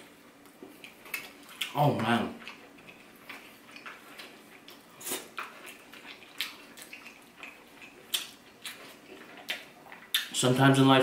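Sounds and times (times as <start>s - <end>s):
wet chewing: 0.4s - 10.4s.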